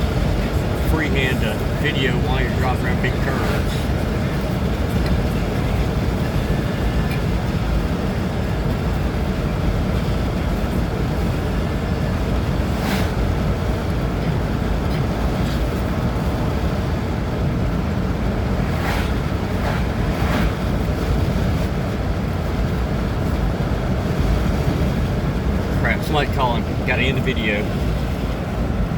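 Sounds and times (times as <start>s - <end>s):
truck engine and tyre rumble: 0.0s - 28.9s.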